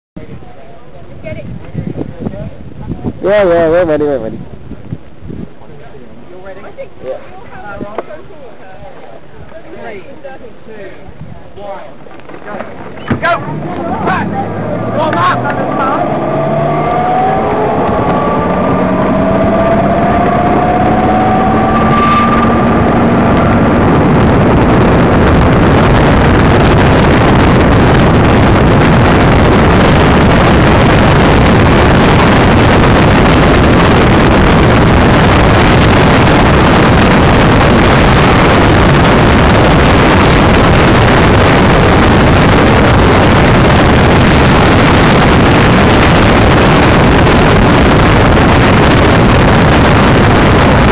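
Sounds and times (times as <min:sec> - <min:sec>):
wind and road noise: 0:00.2 - 0:50.9.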